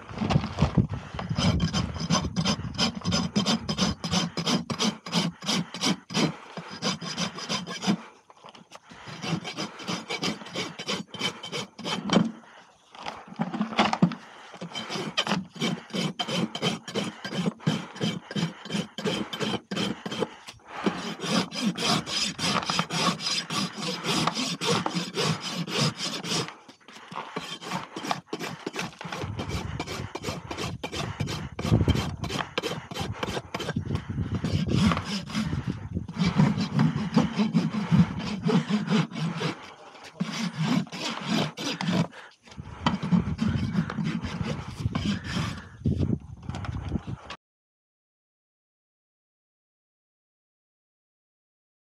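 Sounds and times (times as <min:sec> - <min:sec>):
rasp filing a hoof: 0:00.3 - 0:46.8.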